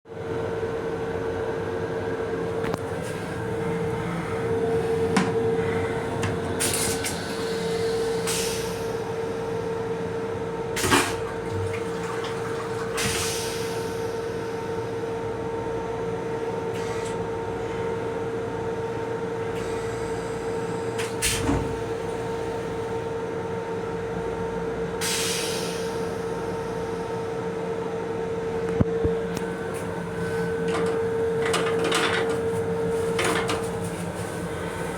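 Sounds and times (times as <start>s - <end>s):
railcar hum with steady tone: 0.1s - 34.9s.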